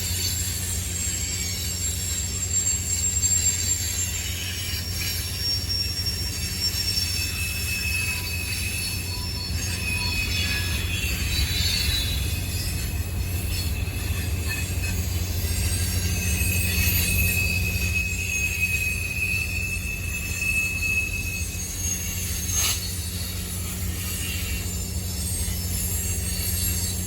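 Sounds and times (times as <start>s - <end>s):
train rumbling past: 0.0s - 27.0s
train wheels squealing on rails: 0.0s - 27.0s.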